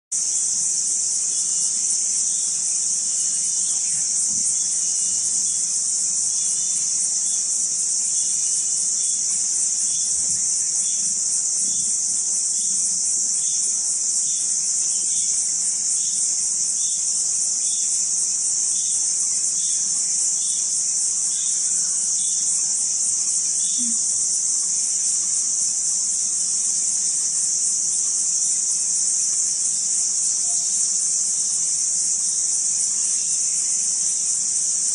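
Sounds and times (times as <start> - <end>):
insects chorus: 0.1 - 34.9.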